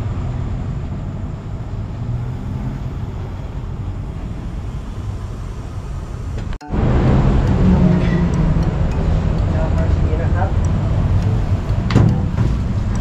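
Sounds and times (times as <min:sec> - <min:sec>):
station platform rumble and hum: 0:00.0 - 0:13.0.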